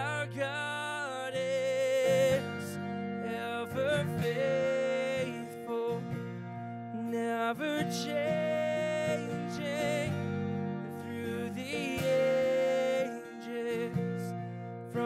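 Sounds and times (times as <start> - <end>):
man singing worship song: 0.0 - 6.2, 7.0 - 10.2, 11.0 - 14.4
acoustic guitar: 0.0 - 15.0.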